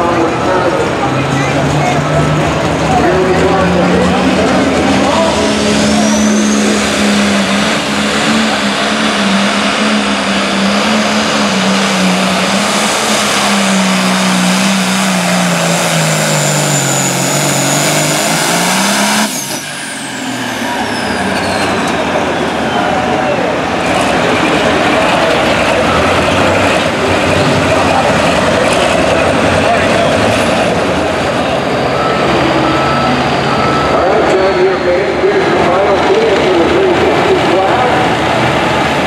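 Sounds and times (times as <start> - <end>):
tractor engine running flat out: 0.0 - 39.0.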